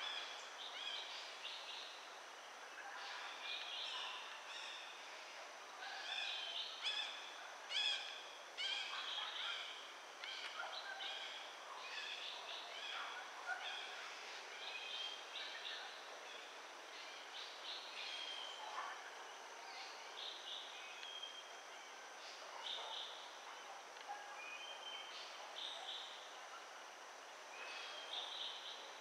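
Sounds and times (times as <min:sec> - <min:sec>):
faint high-pitched hum: 0:00.0 - 0:29.0.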